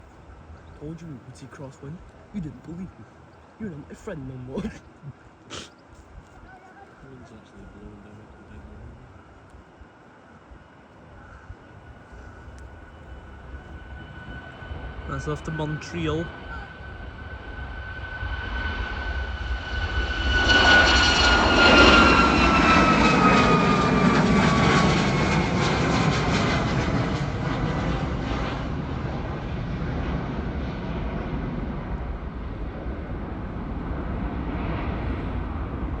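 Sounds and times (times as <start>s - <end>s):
jet engine rumble and whine: 0.0s - 36.0s.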